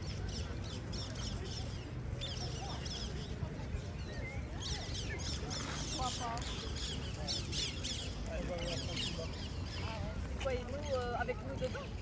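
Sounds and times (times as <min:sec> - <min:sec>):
small birds chirping and singing: 0:00.0 - 0:12.0.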